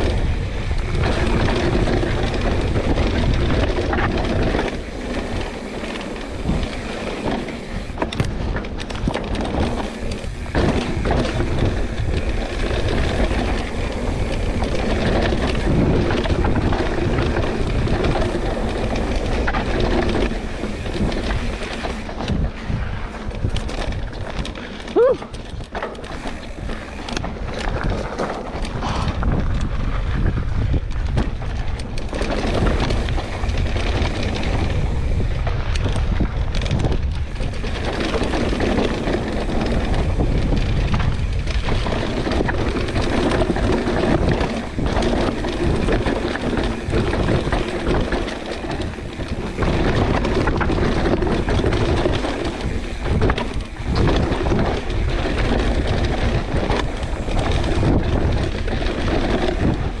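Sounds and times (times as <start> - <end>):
bike chain and frame rattling: 0.0 - 60.0
tyres rolling on dirt: 0.0 - 60.0
wind buffeting microphone: 0.0 - 60.0.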